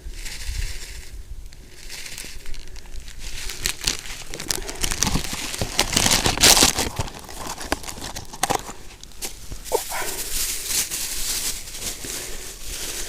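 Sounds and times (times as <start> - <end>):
bag crinkling and rustling: 0.0 - 13.0.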